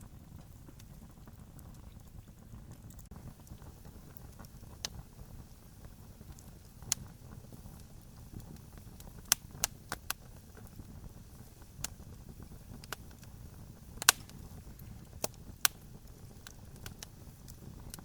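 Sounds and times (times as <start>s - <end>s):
campfire pops and snaps: 0.0s - 18.0s
low rumble of burning fire: 0.0s - 18.0s.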